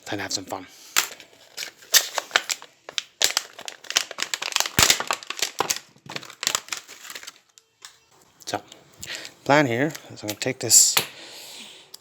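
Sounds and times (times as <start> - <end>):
plastic clicking and crinkling: 0.4 - 8.0, 9.0 - 11.1.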